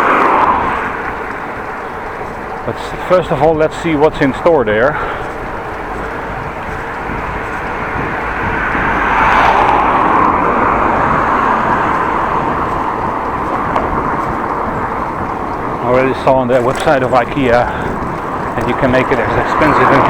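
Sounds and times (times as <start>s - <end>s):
bicycle tyre noise: 0.0s - 20.0s
traffic noise: 0.0s - 20.0s
wind on microphone: 0.0s - 20.0s.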